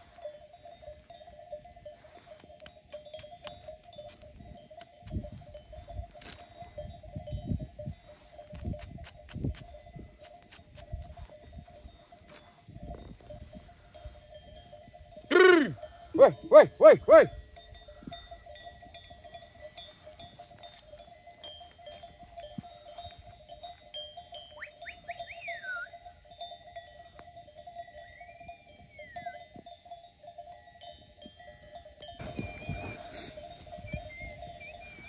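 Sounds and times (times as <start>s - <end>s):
sheep bells clinking: 0.0s - 35.0s.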